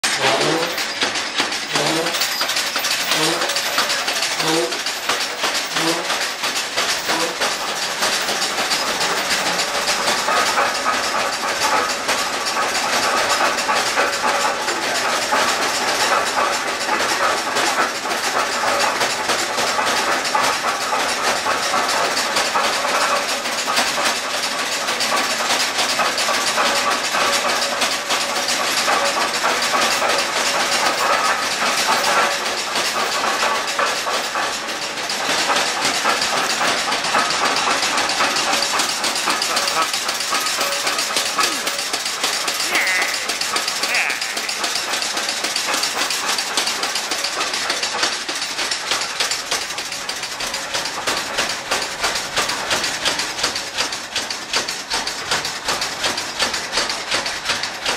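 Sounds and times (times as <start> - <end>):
cable and wheels rattling: 0.0 - 57.9.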